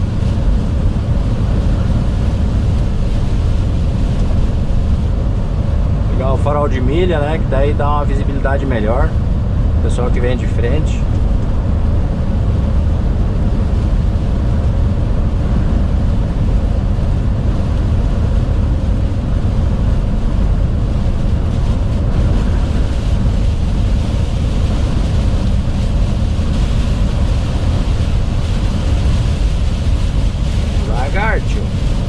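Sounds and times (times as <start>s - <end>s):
rain and wind hissing: 0.0s - 32.0s
truck engine and tyres rumbling: 0.0s - 32.0s.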